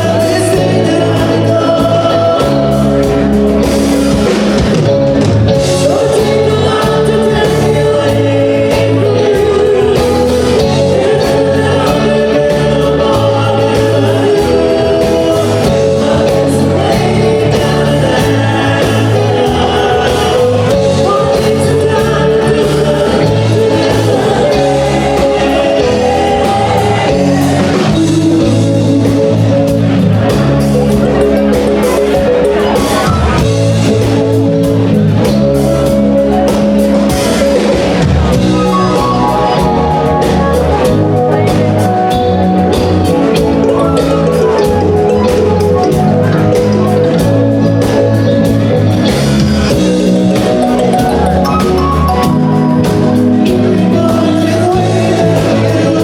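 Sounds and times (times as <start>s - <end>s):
lead vocals singing: 0.0s - 56.0s
live rock band playing: 0.0s - 56.0s.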